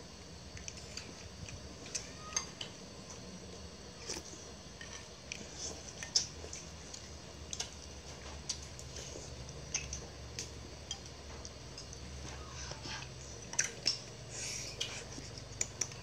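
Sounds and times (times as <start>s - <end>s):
low steady hum: 0.0s - 16.0s
wet chewing: 0.4s - 3.2s, 3.9s - 16.0s.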